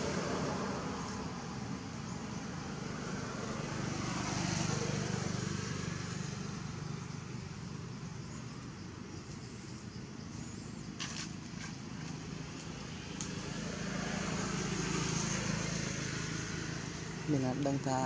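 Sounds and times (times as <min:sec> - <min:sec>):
steady outdoor rumble and hiss: 0:00.0 - 0:18.0.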